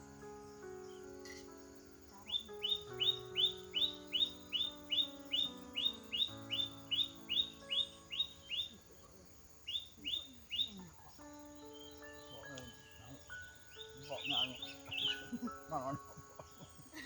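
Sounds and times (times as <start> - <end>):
background music held notes: 0.0 - 17.0.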